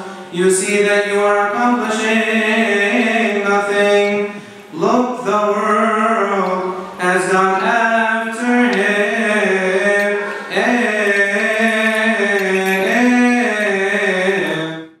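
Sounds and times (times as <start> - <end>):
man chanting unaccompanied: 0.0 - 14.9.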